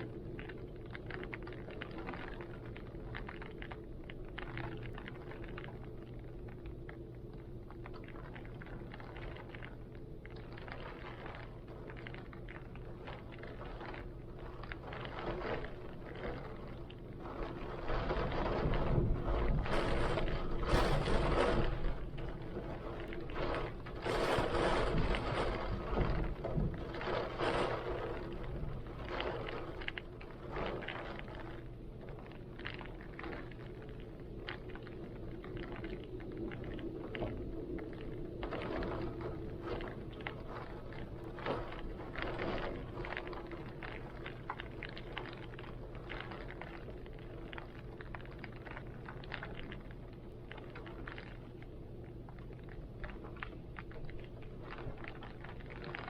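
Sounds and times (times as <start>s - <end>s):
rain: 0.0s - 56.0s.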